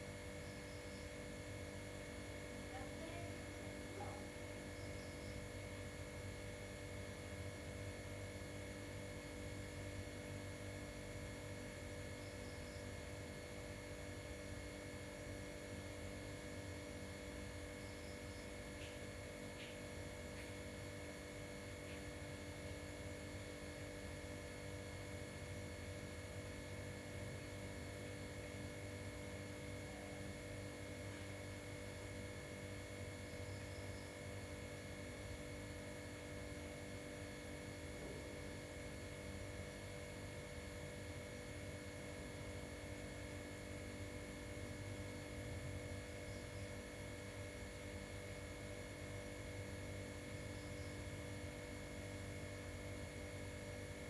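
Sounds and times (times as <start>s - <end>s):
faint electrical hum: 0.0s - 54.0s.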